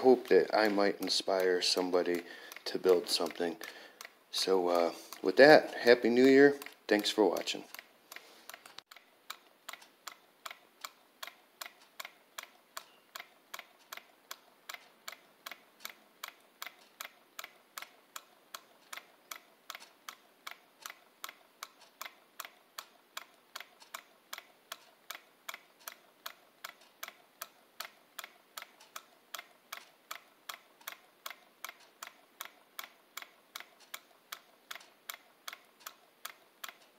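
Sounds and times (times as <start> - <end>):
solenoid engine clicking: 0.0 - 36.9.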